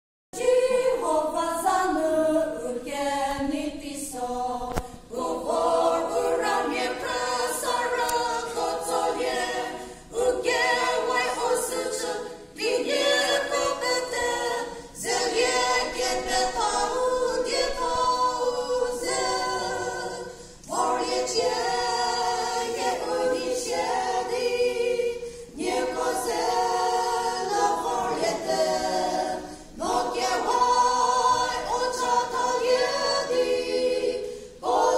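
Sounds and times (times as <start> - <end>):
women singing a cappella: 0.4 - 34.9.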